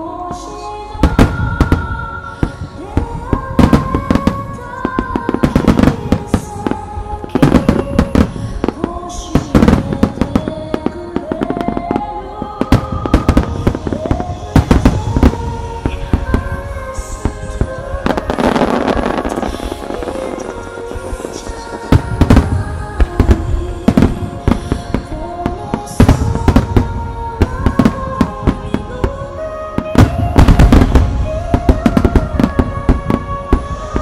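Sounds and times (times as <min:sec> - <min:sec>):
slow melodic music: 0:00.0 - 0:34.0
fireworks bursting with loud bangs: 0:01.0 - 0:34.0.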